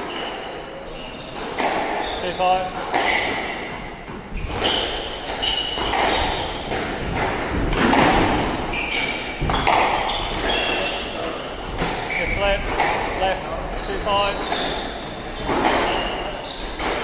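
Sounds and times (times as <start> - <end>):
squash ball hitting racket: 1.3 - 17.0.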